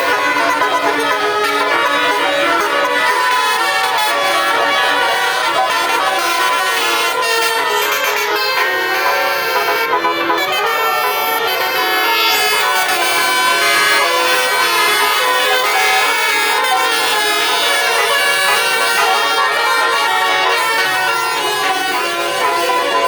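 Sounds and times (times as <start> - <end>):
multi-tone bus air horn tune: 0.0 - 23.0.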